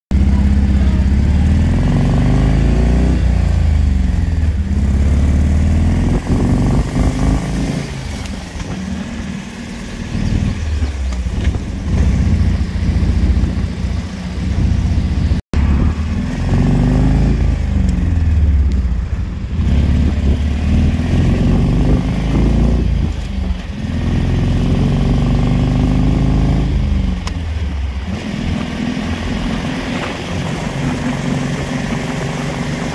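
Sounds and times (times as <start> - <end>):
car engine accelerating through gears: 0.2 - 32.9.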